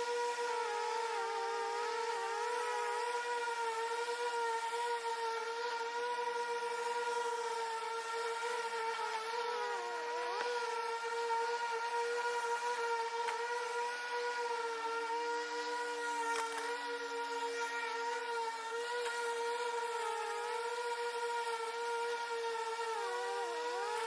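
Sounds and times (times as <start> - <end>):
electric mower motor whine: 0.0 - 24.0.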